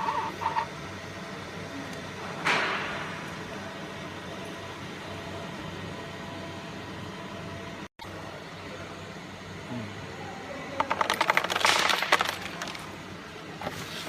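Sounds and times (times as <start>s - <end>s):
cooling fan hum: 0.0s - 14.0s.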